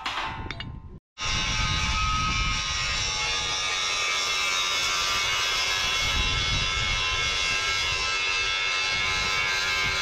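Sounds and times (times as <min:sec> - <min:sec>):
angle grinder grinding steel: 0:01.2 - 0:10.0.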